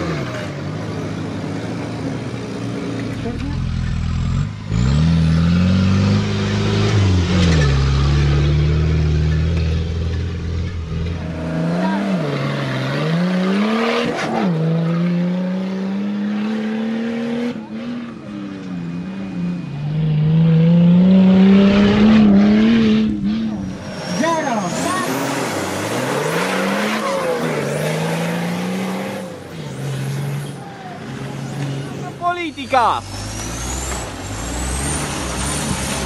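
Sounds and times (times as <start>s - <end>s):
off-road engines revving: 0.0s - 36.0s.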